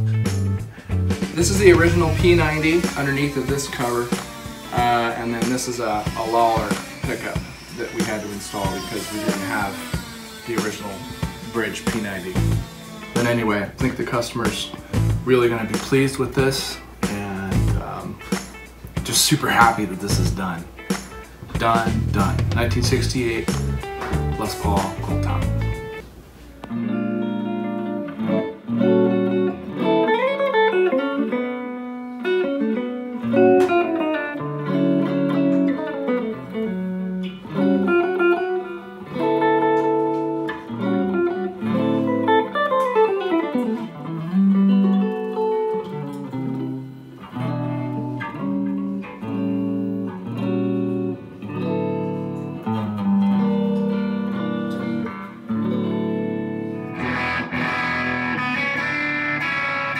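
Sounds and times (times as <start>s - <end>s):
electric guitar playing: 0.0s - 59.9s.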